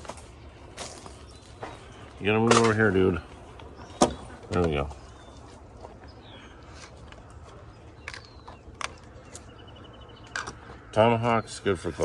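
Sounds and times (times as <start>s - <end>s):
bird chirping: 0.9s - 12.0s.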